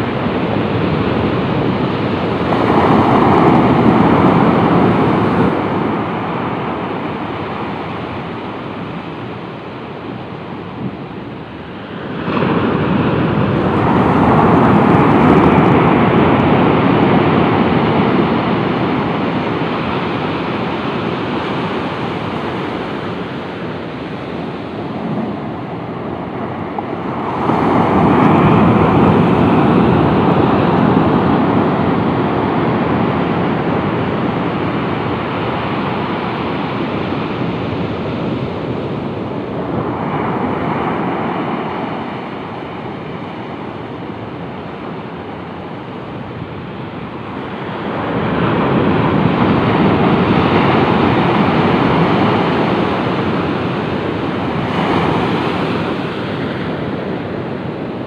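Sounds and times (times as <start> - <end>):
waves crashing on beach: 0.0 - 58.0.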